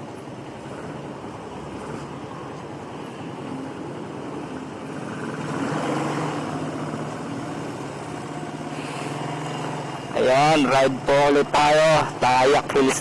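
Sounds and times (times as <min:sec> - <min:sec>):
motorcycle engine humming: 0:00.0 - 0:12.1.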